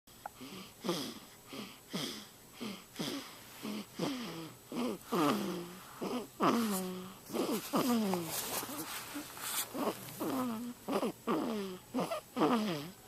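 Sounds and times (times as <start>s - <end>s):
wheezy snoring: 0.4s - 13.0s.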